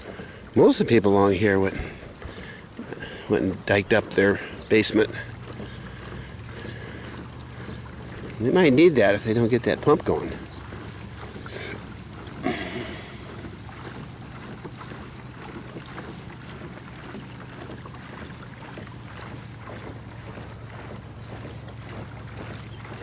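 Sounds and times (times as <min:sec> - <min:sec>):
boat motor running: 0:00.0 - 0:23.0
water noise: 0:00.0 - 0:23.0.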